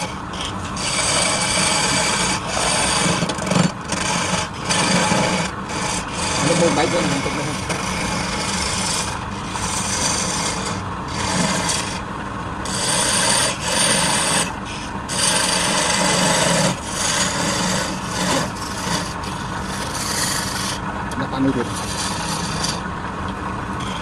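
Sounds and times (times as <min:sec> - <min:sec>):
woodturning tool scraping wood: 0:00.0 - 0:22.9, 0:23.8 - 0:24.0
lathe running hum: 0:00.0 - 0:24.0.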